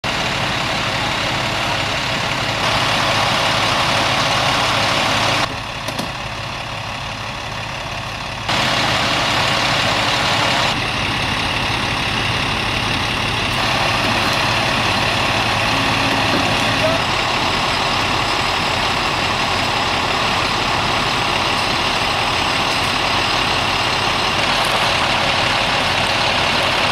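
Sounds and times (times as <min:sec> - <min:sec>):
diesel truck engines idling: 0:00.0 - 0:26.9.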